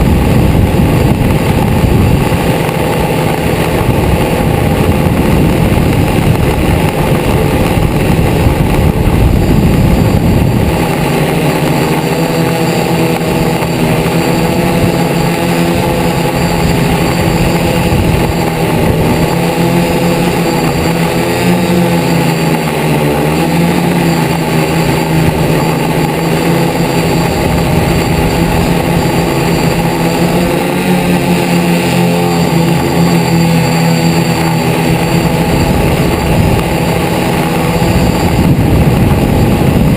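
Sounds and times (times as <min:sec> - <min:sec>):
drone propellers buzzing: 0:00.0 - 0:39.9
loud rushing noise: 0:00.0 - 0:39.9.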